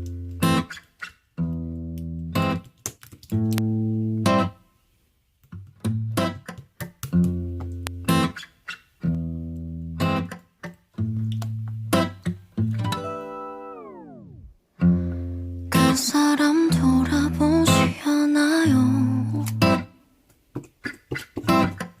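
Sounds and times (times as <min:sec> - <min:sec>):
guitar instrumental music: 0:00.0 - 0:02.7, 0:03.3 - 0:04.6, 0:05.7 - 0:19.9.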